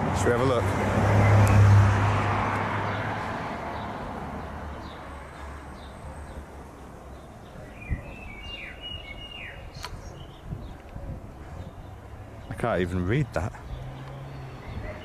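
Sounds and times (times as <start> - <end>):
car passing: 0.0 - 8.8, 11.5 - 15.0
small birds chirping: 2.8 - 15.0.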